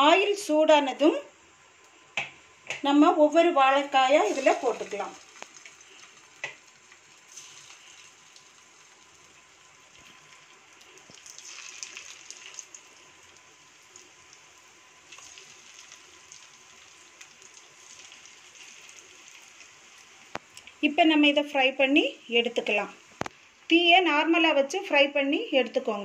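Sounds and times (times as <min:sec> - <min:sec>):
banana slices sizzling in hot oil: 0:01.6 - 0:26.0.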